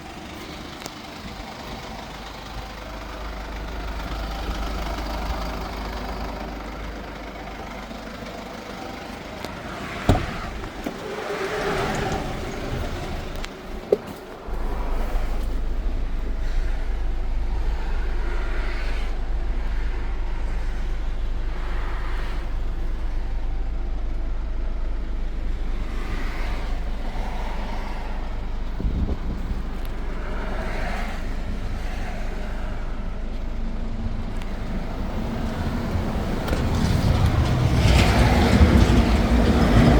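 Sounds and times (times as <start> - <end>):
diesel van engine idling: 0.0 - 39.9.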